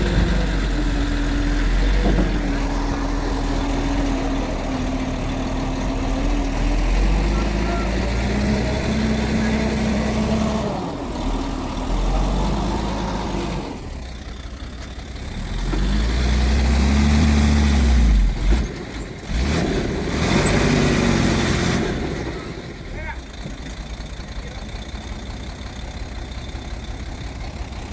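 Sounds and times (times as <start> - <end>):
bulldozer diesel engine working: 0.0 - 27.9.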